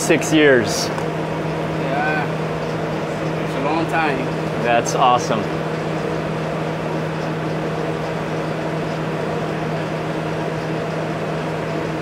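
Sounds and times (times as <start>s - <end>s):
kitchen machinery whir and hum: 0.0s - 12.0s.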